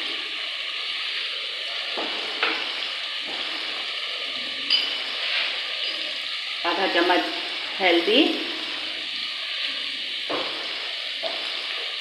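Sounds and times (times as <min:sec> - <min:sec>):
potatoes sizzling in a pot: 0:00.0 - 0:12.0.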